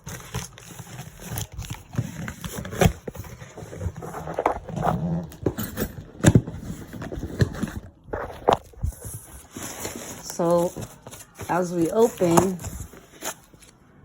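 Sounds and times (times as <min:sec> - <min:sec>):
packaging rustling: 0:00.0 - 0:13.8.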